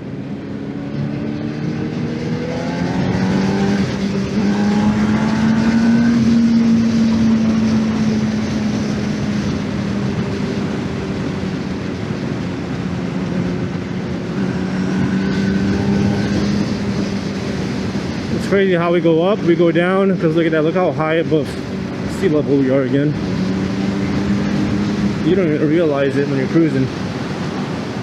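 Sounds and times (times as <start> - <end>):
wind noise: 0.0 - 28.0
motorcycle engine revving: 0.3 - 20.0, 21.2 - 28.0.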